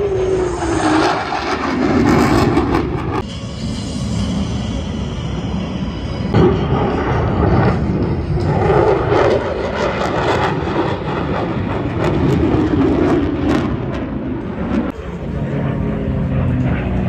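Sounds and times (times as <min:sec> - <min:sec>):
fighter jet roar: 0:00.0 - 0:17.0
propeller plane flying by: 0:00.0 - 0:17.0.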